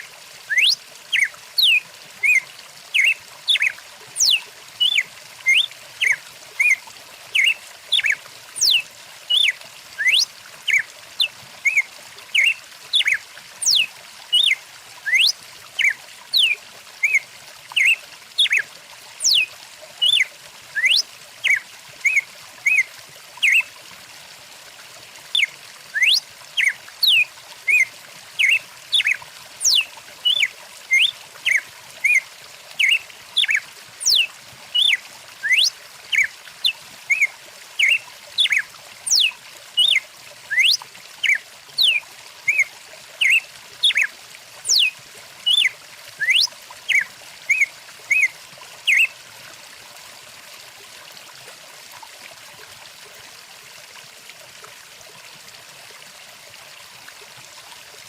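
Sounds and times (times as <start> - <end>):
flowing stream: 0.0 - 58.0.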